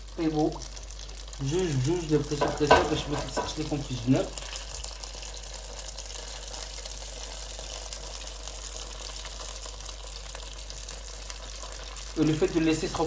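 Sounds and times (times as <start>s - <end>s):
spring roll deep-frying in oil: 0.0s - 13.0s.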